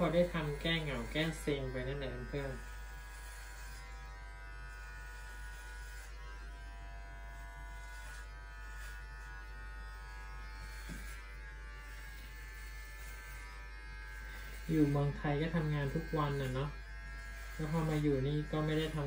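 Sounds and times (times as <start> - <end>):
electric hair clippers buzzing: 0.0 - 19.0.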